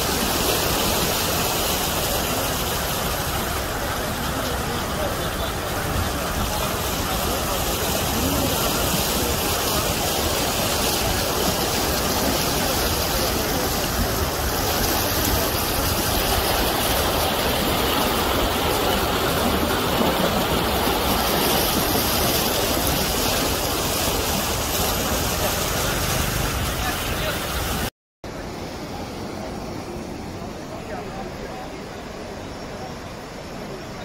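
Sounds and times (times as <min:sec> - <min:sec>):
floodwater rushing: 0:00.0 - 0:34.0.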